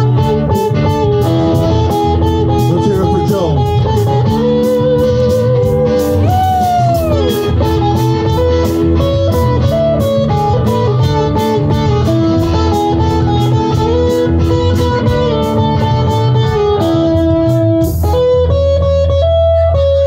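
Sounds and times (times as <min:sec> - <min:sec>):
steady drum beat: 0:00.0 - 0:18.5
live band with electric guitars: 0:00.0 - 0:20.0.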